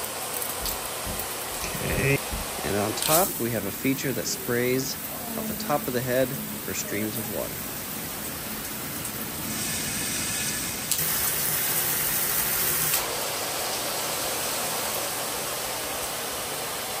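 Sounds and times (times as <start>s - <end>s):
shower sprayer hissing: 0.0s - 17.0s.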